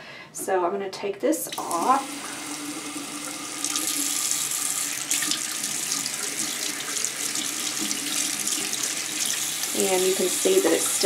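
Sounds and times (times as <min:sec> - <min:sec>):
faucet running into a sink: 0:01.5 - 0:11.0.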